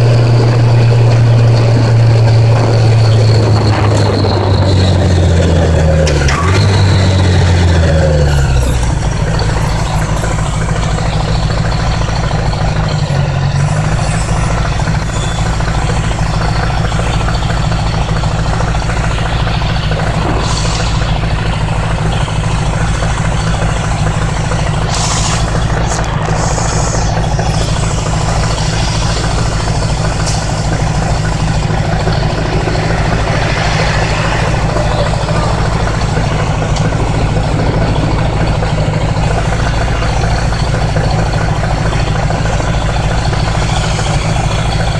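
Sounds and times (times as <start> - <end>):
motorcycle engine droning: 0.0 - 44.9
wind and road noise: 0.0 - 44.9.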